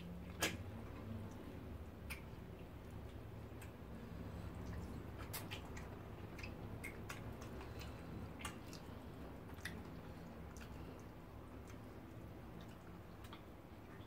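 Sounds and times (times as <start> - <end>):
low steady hum: 0.0 - 14.0
chewing and lip smacks: 0.2 - 14.0
fingers squishing through food: 0.2 - 14.0.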